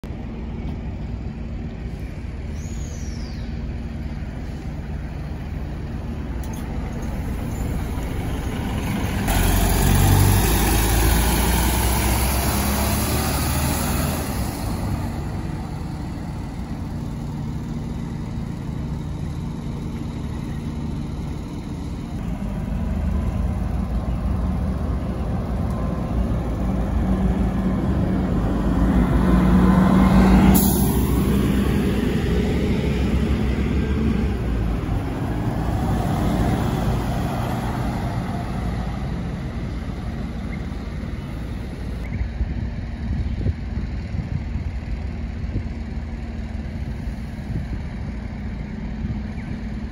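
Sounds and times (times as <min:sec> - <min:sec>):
buses driving past: 0:00.0 - 0:49.9.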